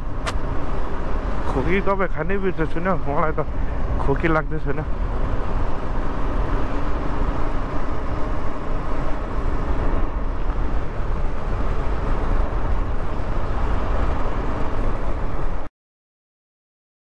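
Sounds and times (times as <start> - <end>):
wind noise: 0.0 - 15.7.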